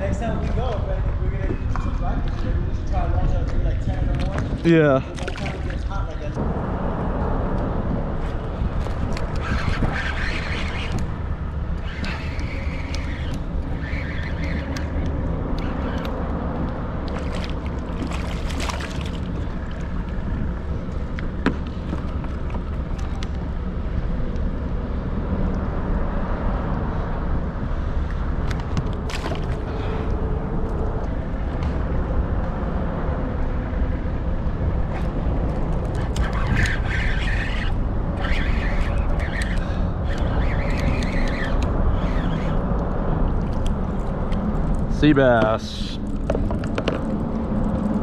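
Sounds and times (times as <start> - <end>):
wind and water on microphone: 0.0 - 48.0.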